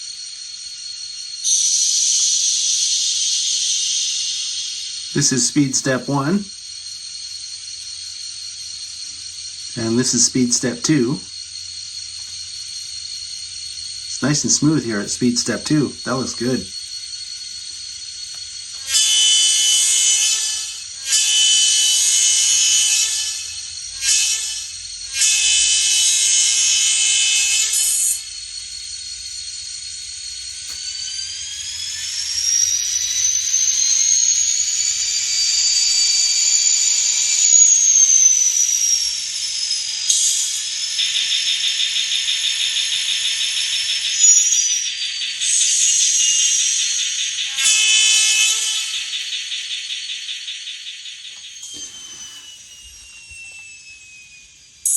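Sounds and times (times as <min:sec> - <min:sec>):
model locomotive diesel sound: 0:00.0 - 0:54.9
rising whine: 0:00.0 - 0:54.9.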